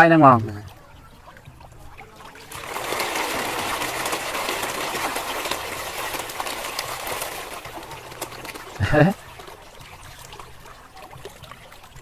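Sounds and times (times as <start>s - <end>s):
fish splashing at water surface: 0.7s - 12.0s.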